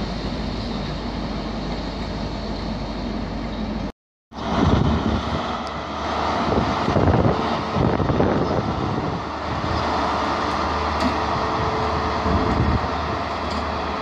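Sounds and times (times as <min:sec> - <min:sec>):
diesel engine rumbling: 0:00.0 - 0:14.0
train rolling on rails: 0:00.0 - 0:14.0.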